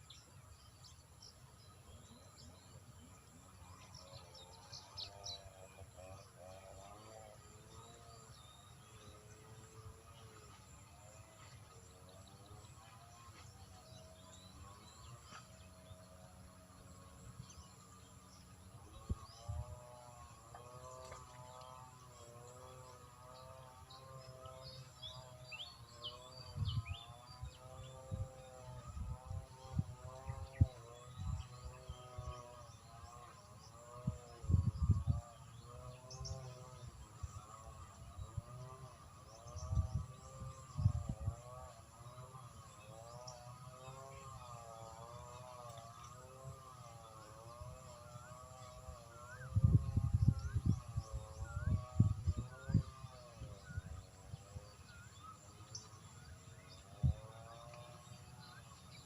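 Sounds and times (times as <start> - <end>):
faint outdoor ambience: 0.0 - 59.0.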